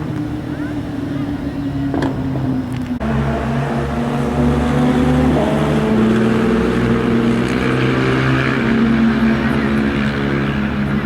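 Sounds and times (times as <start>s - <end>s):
engine running with low hum: 0.0s - 11.0s.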